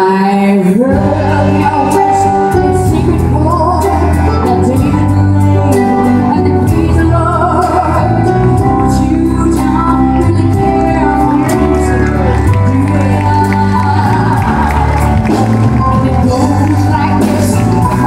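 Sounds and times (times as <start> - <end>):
amplified backing music: 0.0 - 18.0
woman singing into microphone: 0.0 - 18.0
bass line: 0.8 - 18.0.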